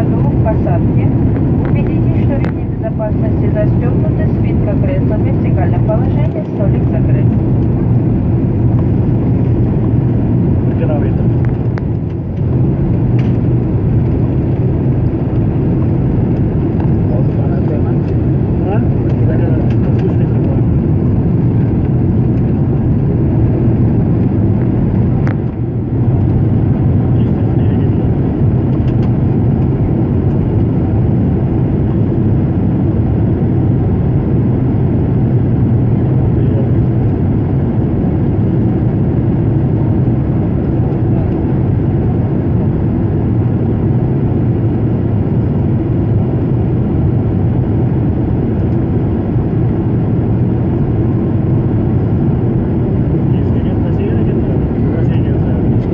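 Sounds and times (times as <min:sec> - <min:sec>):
jet engines and airflow roar: 0:00.0 - 0:55.9.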